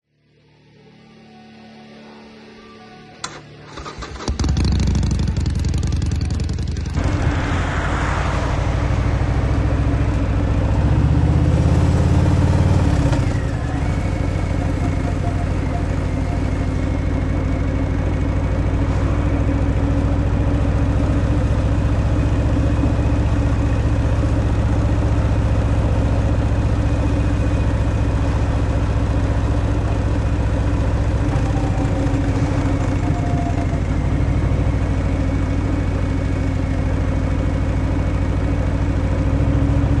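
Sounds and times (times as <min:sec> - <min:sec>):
motorcycle engine running: 0:03.8 - 0:40.0.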